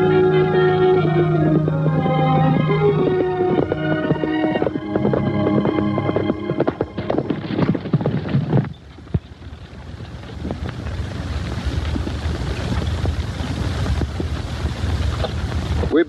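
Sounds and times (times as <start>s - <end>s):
horse hoofbeats: 0.0s - 16.0s
low rumble with hiss: 0.0s - 16.0s.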